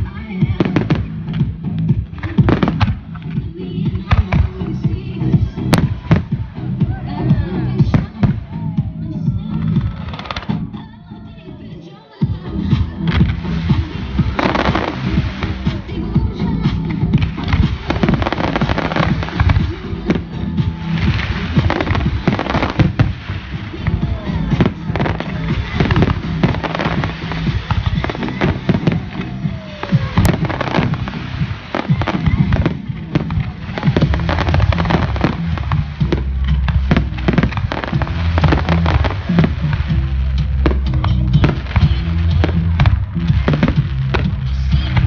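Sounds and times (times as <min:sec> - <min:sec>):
fireworks bangs and crackles: 0:00.0 - 0:10.8, 0:12.2 - 0:45.0
loud music with bass: 0:00.0 - 0:45.0.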